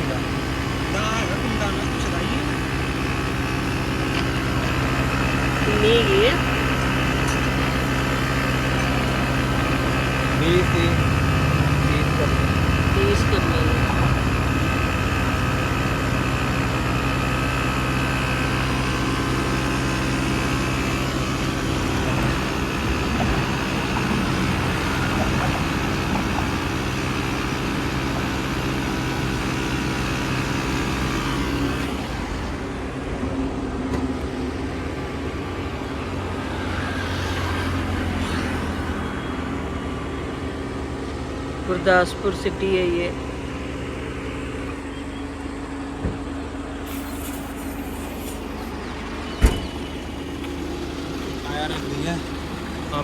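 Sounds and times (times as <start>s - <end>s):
tyre inflator compressor running: 0.0s - 53.0s.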